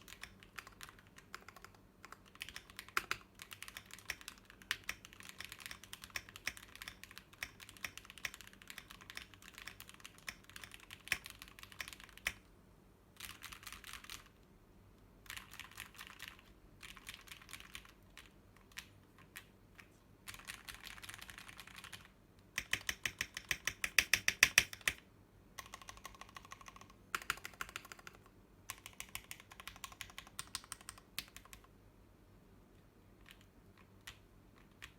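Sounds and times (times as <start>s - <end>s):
mechanical keyboard typing: 0.0s - 12.4s, 13.2s - 14.3s, 15.2s - 25.0s, 25.6s - 31.7s, 33.2s - 34.9s.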